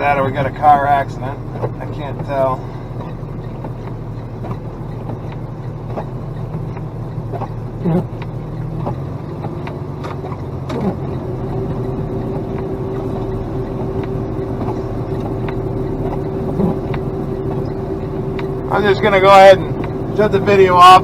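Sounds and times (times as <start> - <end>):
steady hum: 0.0 - 8.6, 10.5 - 21.0
diesel truck engine running: 0.0 - 21.0.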